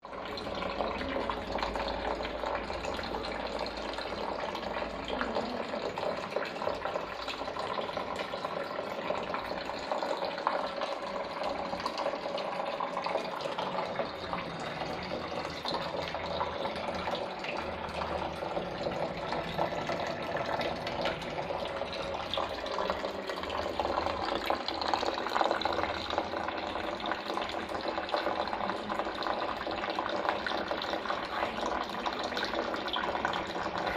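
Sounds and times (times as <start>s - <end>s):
water splashing in fountain: 0.0s - 33.9s.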